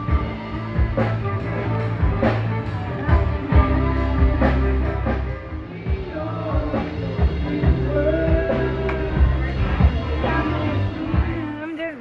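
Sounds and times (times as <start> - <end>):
low bass notes: 0.0 - 11.6
band music: 0.0 - 12.0
drum kit steady beat: 0.0 - 12.0.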